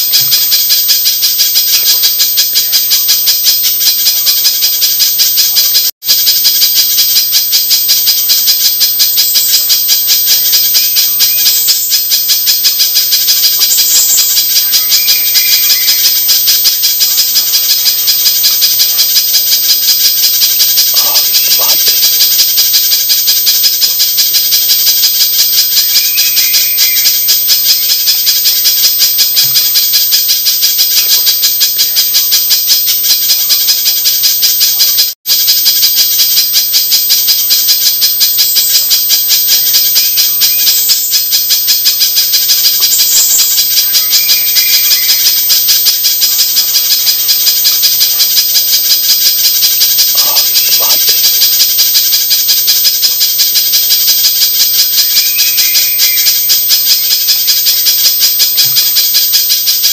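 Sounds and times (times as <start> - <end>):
bird calling rapid high notes: 0.0 - 32.2, 38.4 - 57.7.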